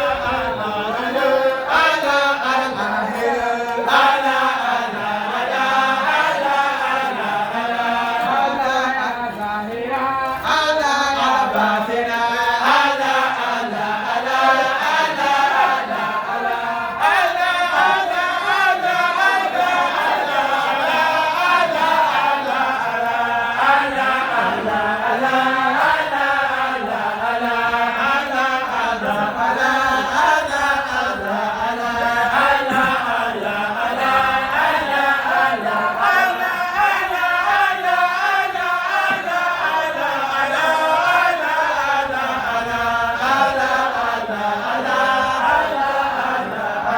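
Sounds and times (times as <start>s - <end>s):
many voices chanting: 0.0s - 46.9s.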